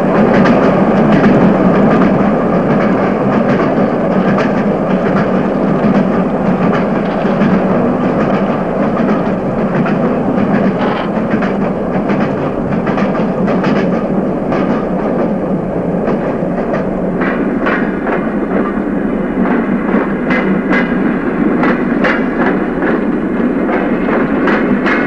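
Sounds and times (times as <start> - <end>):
wheels clattering over rails: 0.0 - 15.4, 16.0 - 25.0
rail vehicle rumbling: 0.0 - 25.0.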